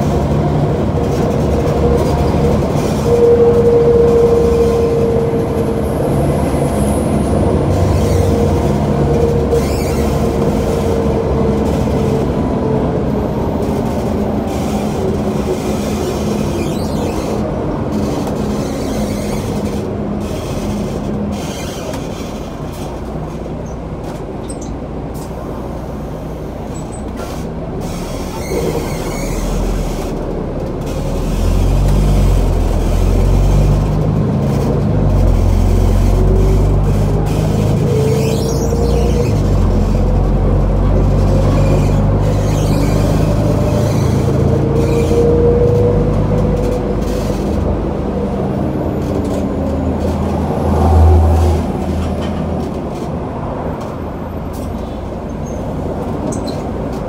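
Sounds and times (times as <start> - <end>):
bus engine and road noise: 0.0 - 57.0
bus whine: 0.0 - 57.0.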